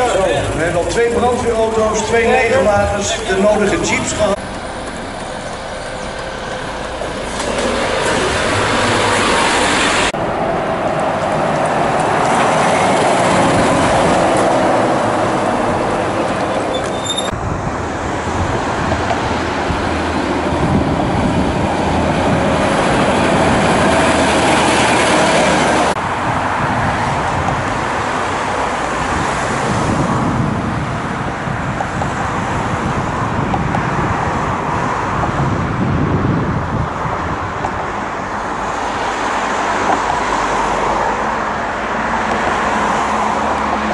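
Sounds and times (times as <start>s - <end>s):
diesel trucks driving past: 0.0s - 43.9s.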